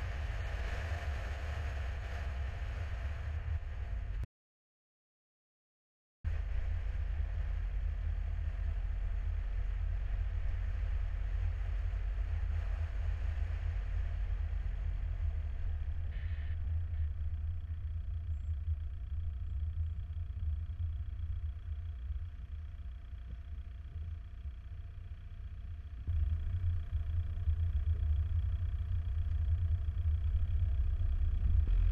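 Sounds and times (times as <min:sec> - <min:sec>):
car road rumble and tyre noise: 0:00.0 - 0:04.3, 0:06.3 - 0:31.9.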